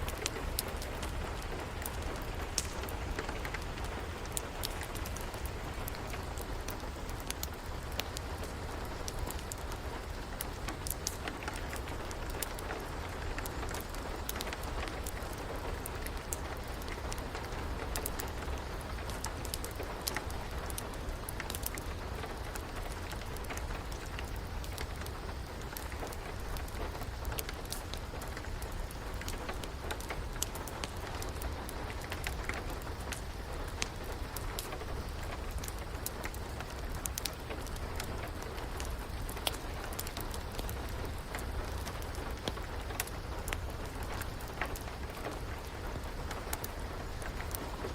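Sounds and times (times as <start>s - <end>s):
fire crackling: 0.0s - 47.9s
rain falling: 0.0s - 47.9s.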